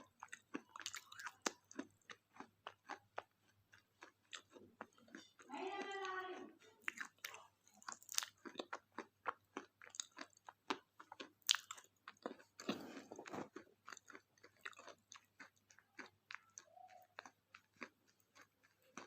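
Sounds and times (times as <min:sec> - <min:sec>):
chewing crunchy wafer: 0:00.0 - 0:19.0.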